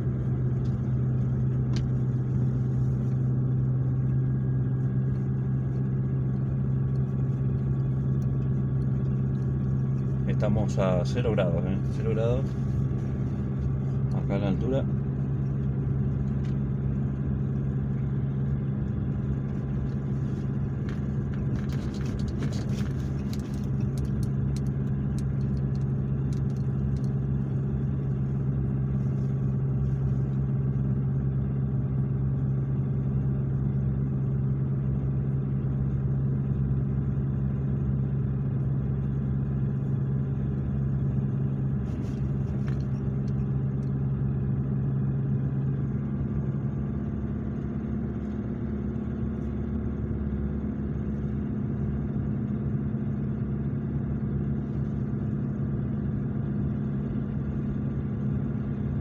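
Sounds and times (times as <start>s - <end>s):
truck engine and road hum: 0.0s - 59.0s.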